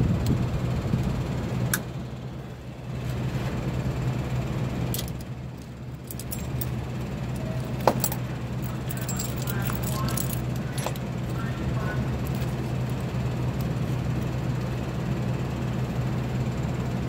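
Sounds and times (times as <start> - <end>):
steady low engine hum: 0.0 - 17.0.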